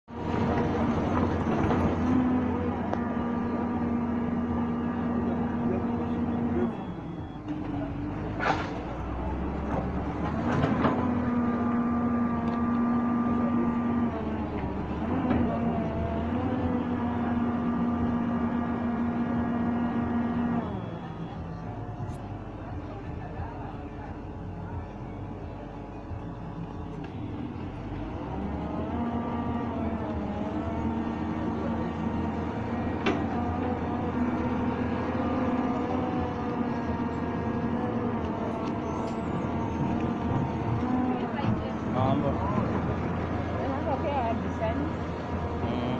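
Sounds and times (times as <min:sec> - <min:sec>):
excavator engine whining: 0:00.0 - 0:45.9.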